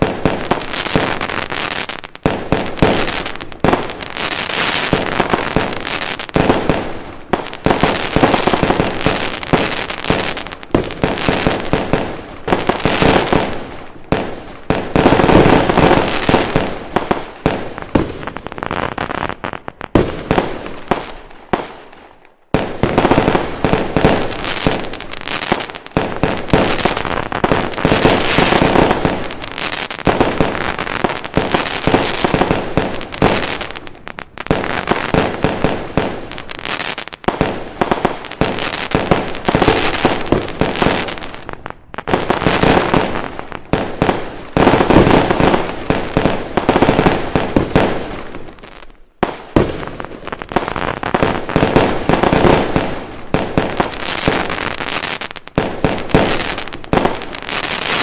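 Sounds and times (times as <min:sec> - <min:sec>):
crackling firecrackers: 0:00.0 - 0:58.0
fireworks bangs: 0:00.0 - 0:58.0.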